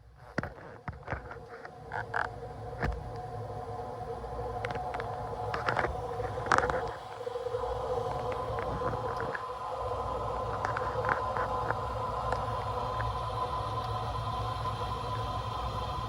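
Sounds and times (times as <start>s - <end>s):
high whine: 0.9s - 16.0s
machine hum: 0.9s - 16.0s.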